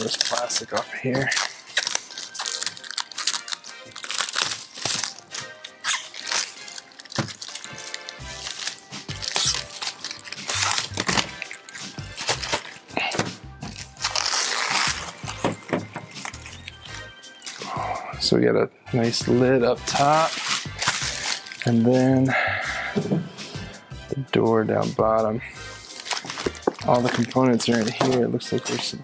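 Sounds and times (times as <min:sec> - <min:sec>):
plastic wrap crinkling and tearing: 0:00.0 - 0:17.9, 0:19.9 - 0:22.2, 0:25.6 - 0:29.0
background music: 0:00.0 - 0:29.0.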